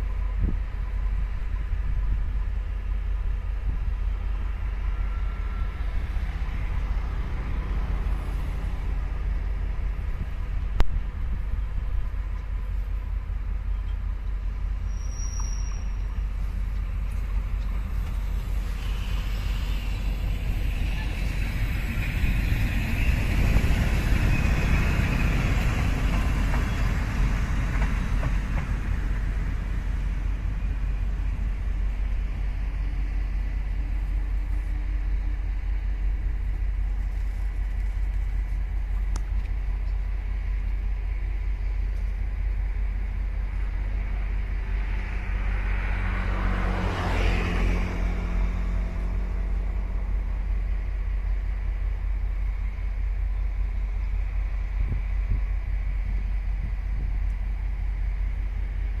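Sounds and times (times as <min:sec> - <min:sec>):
electric locomotive running: 0:00.0 - 0:59.0.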